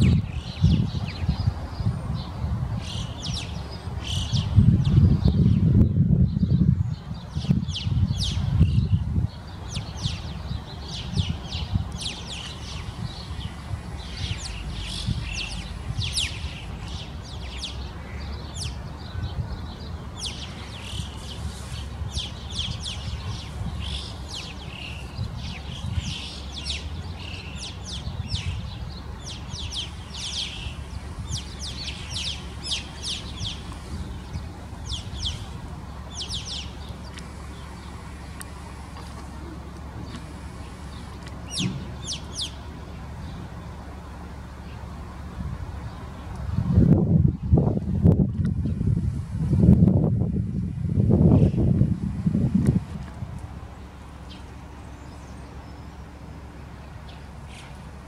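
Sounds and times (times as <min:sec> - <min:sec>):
birds calling high-pitched: 0:00.0 - 0:46.5, 0:53.6 - 0:58.0
low background rumble: 0:00.0 - 0:58.0.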